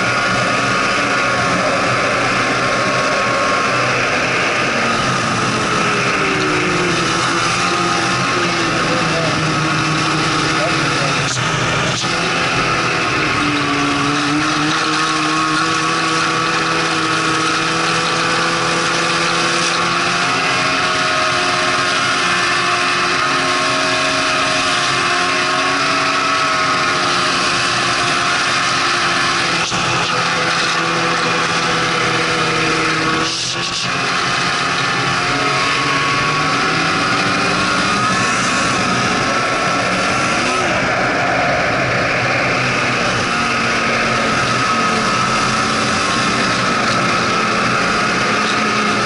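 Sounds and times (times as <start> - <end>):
snowmobile engine whining: 0.0 - 49.0.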